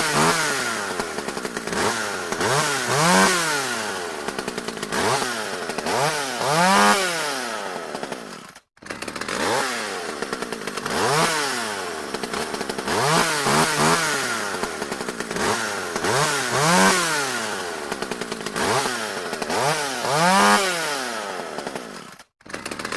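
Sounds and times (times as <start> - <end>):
chainsaw engine revving: 0.0 - 22.9.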